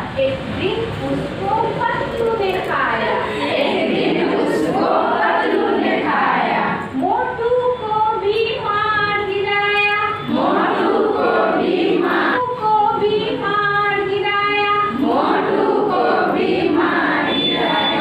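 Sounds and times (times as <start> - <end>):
women singing together: 2.7 - 7.4, 8.2 - 18.0.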